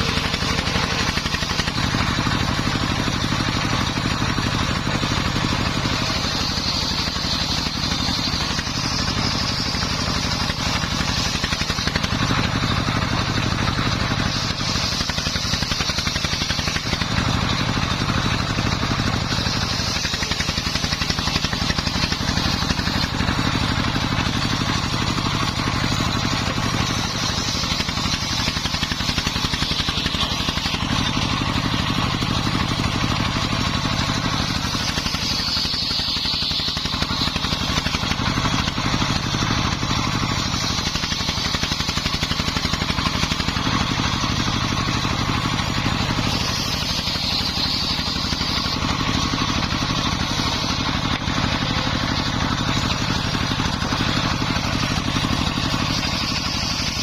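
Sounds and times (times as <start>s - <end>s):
circular saw ripping wood: 0.0s - 57.0s
diesel engine running: 0.0s - 57.0s.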